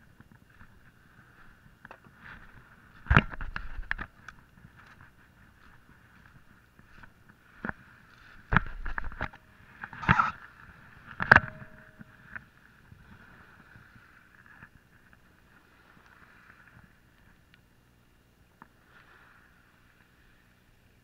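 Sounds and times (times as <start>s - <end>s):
faint reel whir: 0.0s - 21.0s.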